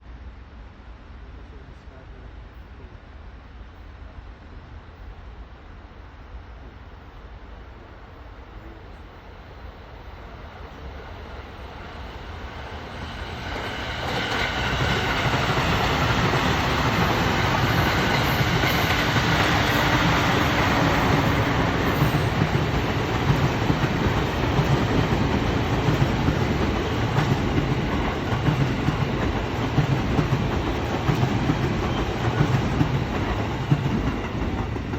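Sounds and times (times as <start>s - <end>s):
electric train passing: 0.0s - 34.9s.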